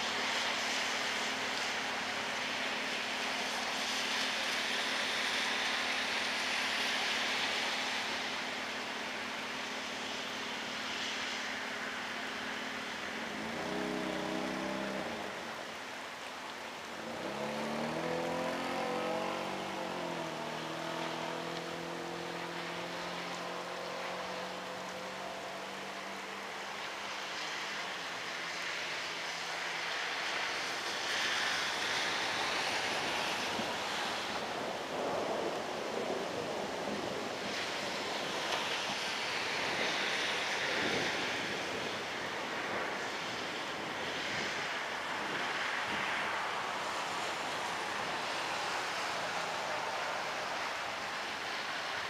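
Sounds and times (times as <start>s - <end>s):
rain and wind hiss: 0.0s - 52.0s.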